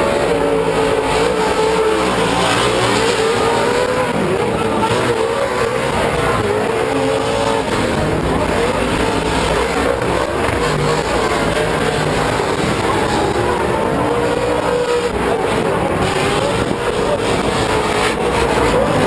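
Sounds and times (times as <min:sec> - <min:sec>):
race truck engines revving: 0:00.0 - 0:19.0.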